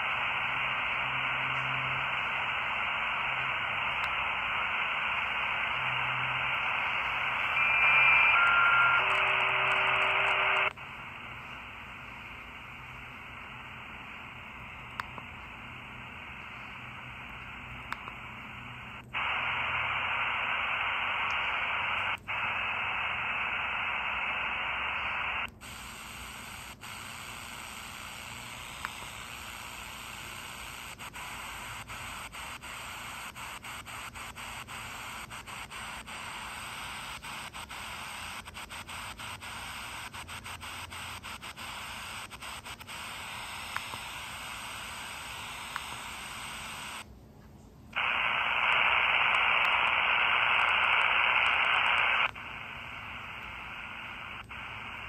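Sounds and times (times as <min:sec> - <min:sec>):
radio crackles: 0:00.0 - 0:47.1, 0:47.9 - 0:55.0
radio static hiss: 0:00.0 - 0:47.1, 0:47.9 - 0:55.0.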